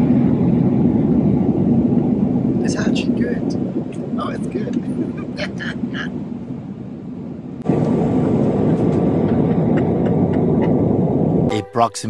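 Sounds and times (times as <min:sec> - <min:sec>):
airliner cabin drone: 0:00.0 - 0:11.9.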